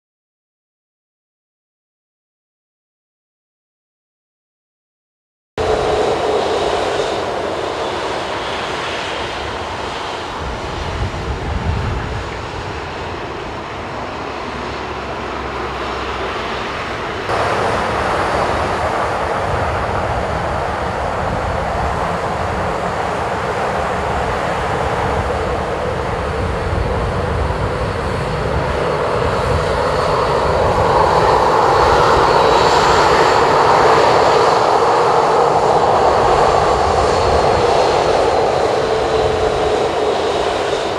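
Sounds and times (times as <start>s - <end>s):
jet engine rushing: 5.6s - 40.9s.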